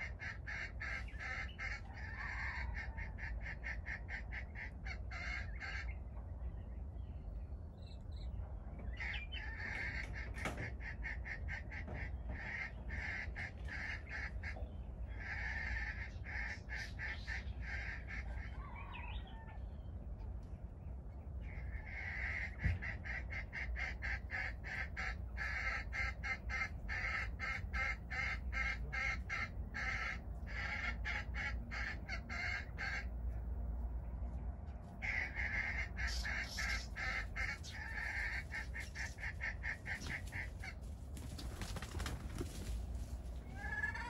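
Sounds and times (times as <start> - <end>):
steady low rumble: 0.0 - 41.4.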